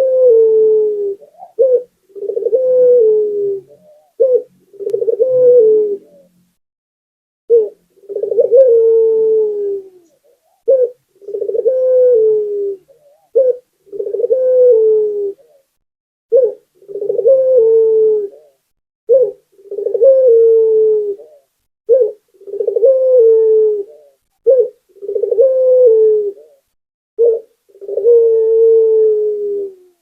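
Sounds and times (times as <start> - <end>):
dove cooing: 0.0 - 6.5, 7.5 - 30.0.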